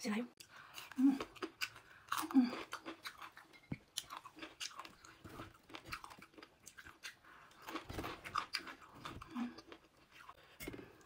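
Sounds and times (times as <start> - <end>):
crunching and chewing cucumber: 0.5 - 11.0.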